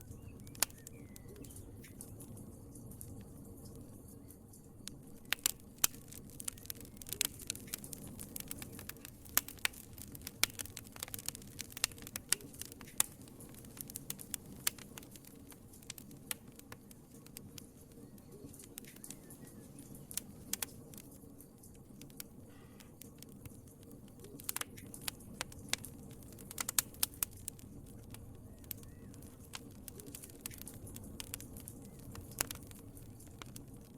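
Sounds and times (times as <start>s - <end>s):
sharp fire pops: 0.0s - 33.9s
wood fire crackling: 0.0s - 33.9s.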